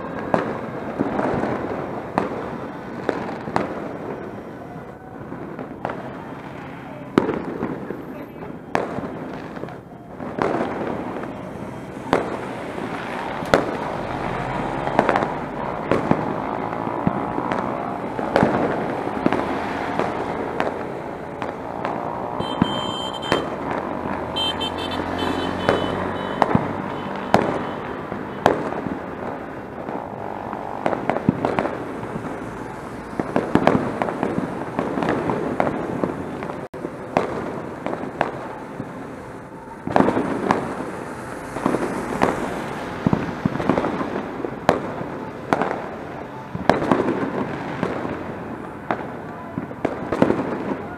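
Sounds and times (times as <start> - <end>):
firecrackers crackling: 0.0 - 50.9
loud firework bangs: 0.0 - 50.9.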